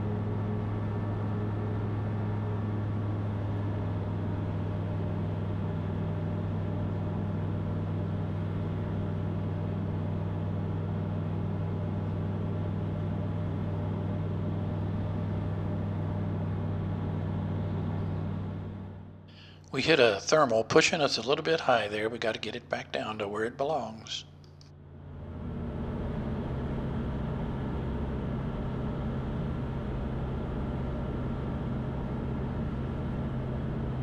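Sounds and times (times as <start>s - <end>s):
aircraft engine and propeller droning: 0.0s - 34.0s.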